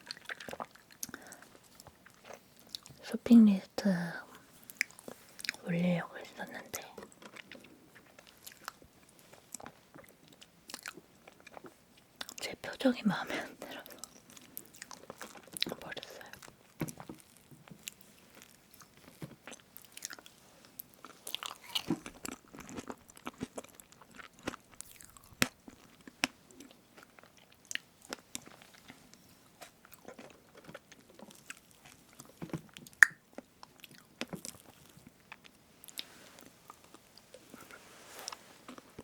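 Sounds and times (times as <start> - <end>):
chewing and wet mouth sounds: 0.0 - 3.0, 4.4 - 39.0.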